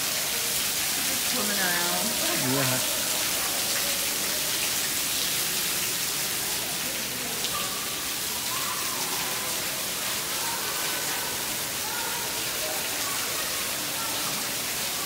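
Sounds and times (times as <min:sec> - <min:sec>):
fountain water splashing on pebbles: 0:00.0 - 0:15.0.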